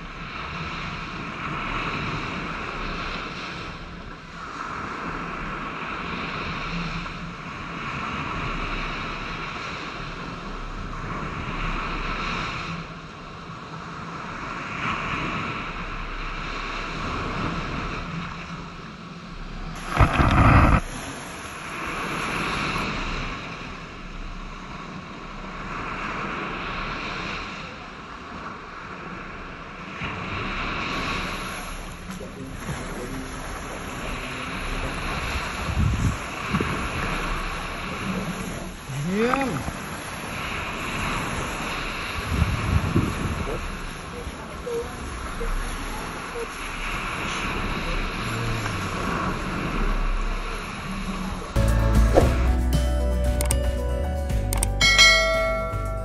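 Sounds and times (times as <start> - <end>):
small waves breaking on shore: 0.0 - 51.6
wind rumbling on microphone: 0.0 - 51.6.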